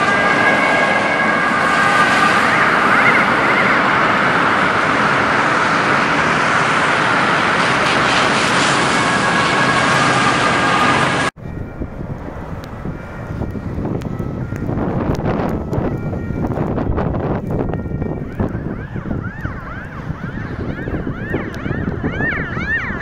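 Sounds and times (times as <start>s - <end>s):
emergency vehicle sirens: 0.0s - 23.0s
siren yelp: 0.0s - 23.0s
traffic noise: 0.0s - 23.0s.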